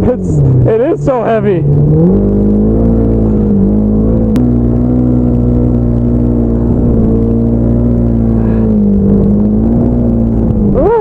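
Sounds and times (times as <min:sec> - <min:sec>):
snowmobile engine running: 0:00.0 - 0:11.0.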